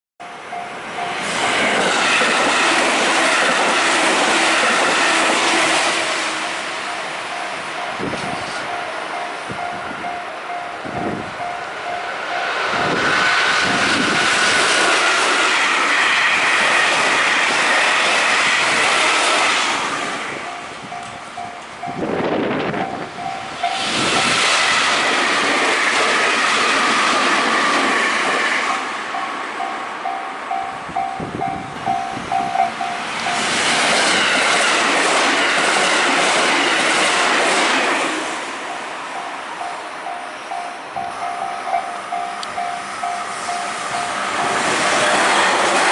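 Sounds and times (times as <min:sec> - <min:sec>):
train passing on rails: 0:00.2 - 0:45.9.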